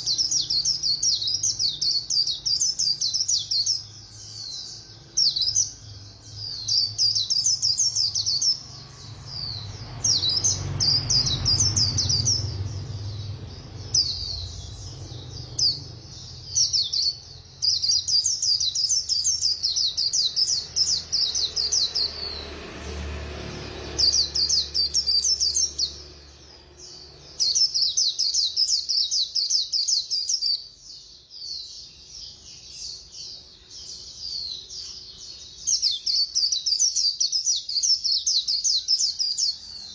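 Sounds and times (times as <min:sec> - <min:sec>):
bird singing twittering song: 0:00.0 - 0:39.9.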